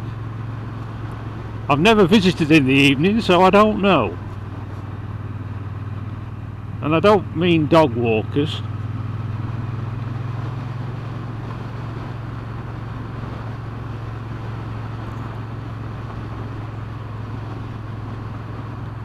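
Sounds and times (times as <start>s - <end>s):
motorcycle engine droning: 0.0s - 19.0s.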